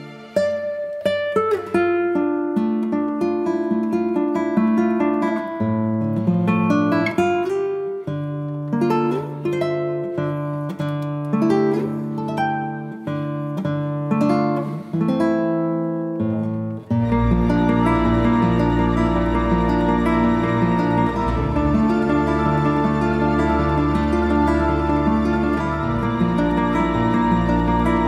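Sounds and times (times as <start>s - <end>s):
plucked acoustic guitar melody: 0.0s - 28.0s.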